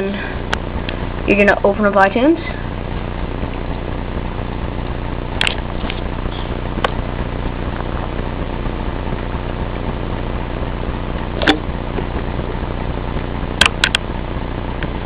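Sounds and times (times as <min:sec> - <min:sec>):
computer machine hum: 0:00.0 - 0:15.0.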